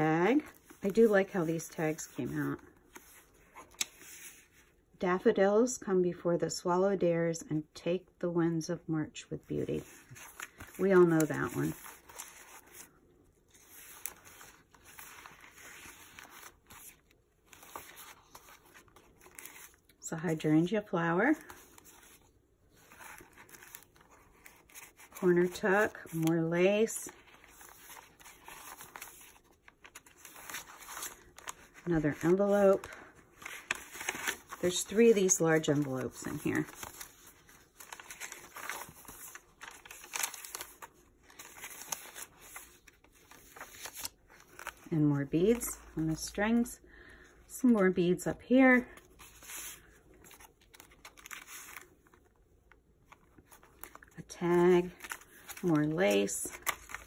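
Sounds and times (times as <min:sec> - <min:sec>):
paper pages rustling: 0:00.0 - 0:04.8, 0:09.7 - 0:20.4, 0:21.3 - 0:46.6, 0:48.7 - 0:57.0.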